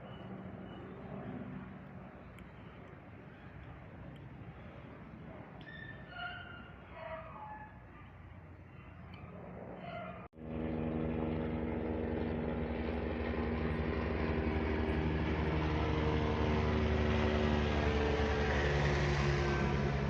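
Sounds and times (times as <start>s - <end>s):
helicopter rotor and turbine: 0.0s - 5.7s, 7.7s - 20.0s.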